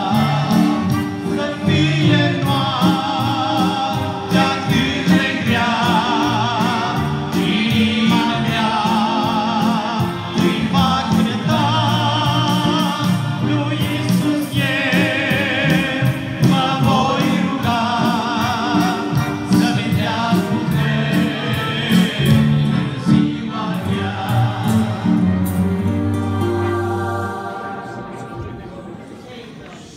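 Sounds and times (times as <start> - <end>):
instrumental accompaniment with beat: 0.0 - 27.8
person singing with vibrato: 0.0 - 28.4.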